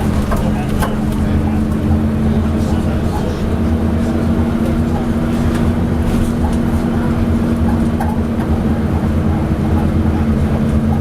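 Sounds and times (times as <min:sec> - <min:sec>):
bus body clanking: 0:00.0 - 0:11.0
bus diesel engine droning: 0:00.0 - 0:11.0.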